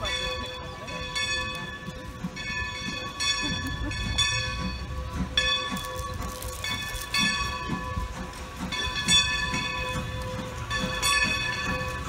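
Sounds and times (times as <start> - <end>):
locomotive bell ringing: 0.0 - 12.0
low engine rumble: 0.0 - 12.0.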